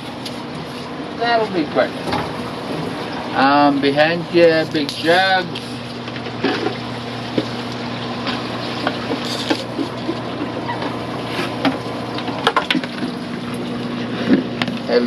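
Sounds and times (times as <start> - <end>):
aquarium pumps and filter water: 0.0 - 15.0.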